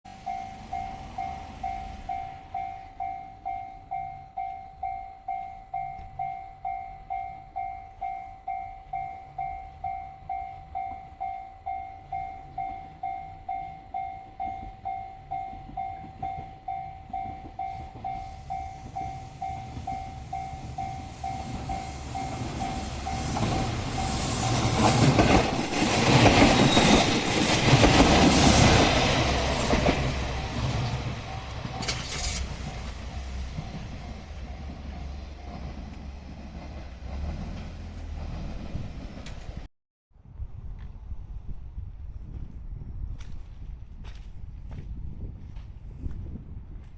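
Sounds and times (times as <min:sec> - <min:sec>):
train passing: 0:00.1 - 0:45.6.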